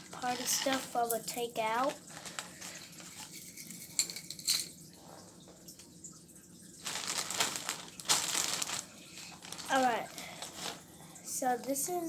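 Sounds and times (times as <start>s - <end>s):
crinkly plastic bag rustling: 0.0s - 4.5s, 6.8s - 12.0s.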